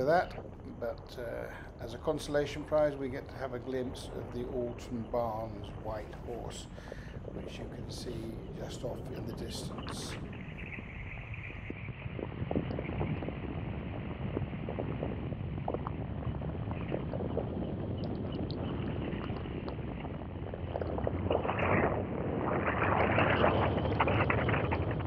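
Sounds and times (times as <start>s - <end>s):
aircraft engine drone: 0.0s - 25.0s
wind rushing over microphone: 0.0s - 25.0s.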